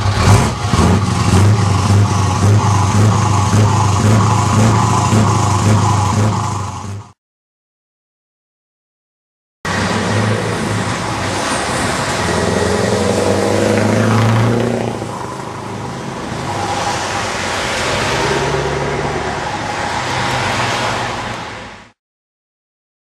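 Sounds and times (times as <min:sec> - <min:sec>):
truck engine under load: 0:00.0 - 0:07.2, 0:09.7 - 0:21.2.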